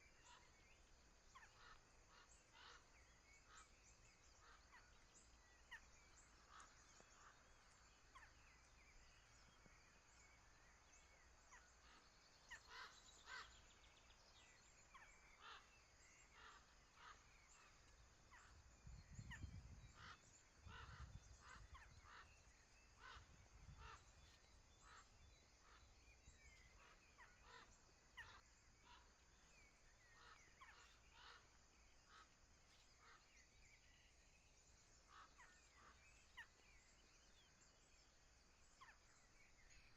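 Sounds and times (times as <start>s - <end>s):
bird calls and chirps: 0.0s - 39.9s.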